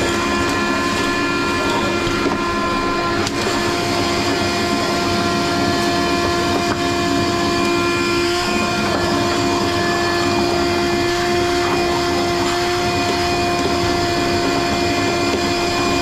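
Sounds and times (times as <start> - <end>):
shop vacuum motor whine: 0.0 - 16.0.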